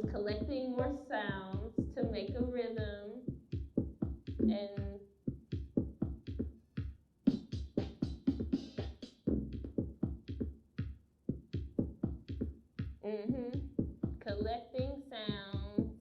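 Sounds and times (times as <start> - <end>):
crisp drum machine hits: 0.0 - 16.0
drum machine deep thumping beat: 0.0 - 16.0.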